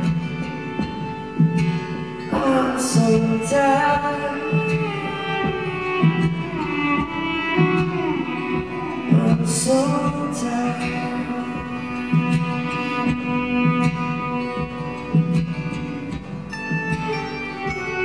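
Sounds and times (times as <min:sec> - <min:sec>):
acoustic guitar: 0:00.0 - 0:18.0
wordless melody: 0:00.0 - 0:18.0.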